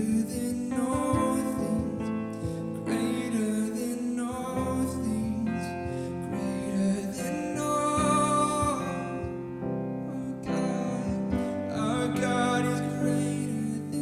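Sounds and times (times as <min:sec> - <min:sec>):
person singing: 0:00.0 - 0:14.0
soft worship music: 0:00.0 - 0:14.0.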